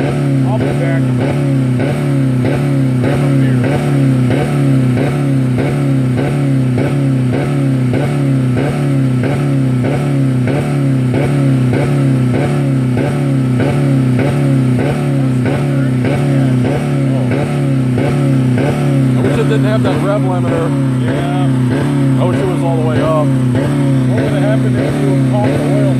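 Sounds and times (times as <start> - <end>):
car engine bouncing off rev limiter: 0.0 - 25.9.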